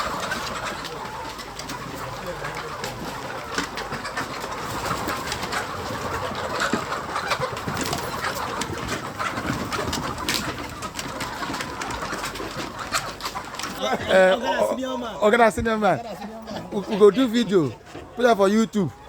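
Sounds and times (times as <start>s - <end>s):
hens clucking and crooning: 0.0s - 19.0s.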